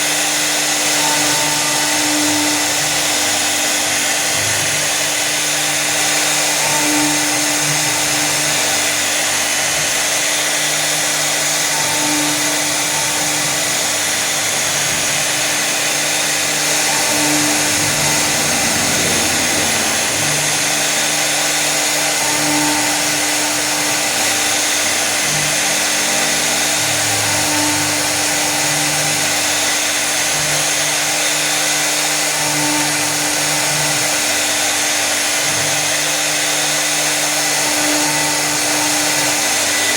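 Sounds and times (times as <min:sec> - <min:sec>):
router spindle motor humming: 0:00.0 - 0:39.9.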